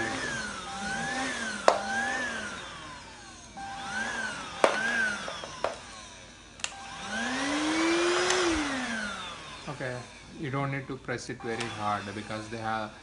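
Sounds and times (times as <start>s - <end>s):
vacuum motor whining: 0.0s - 13.0s.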